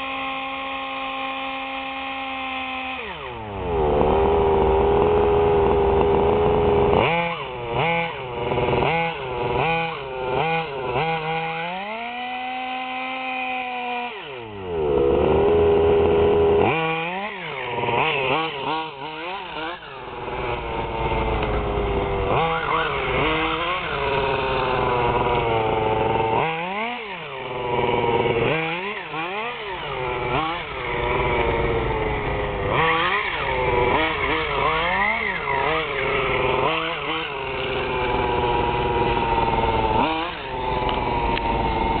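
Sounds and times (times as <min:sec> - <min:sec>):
model car engine revving: 0:00.0 - 0:42.0.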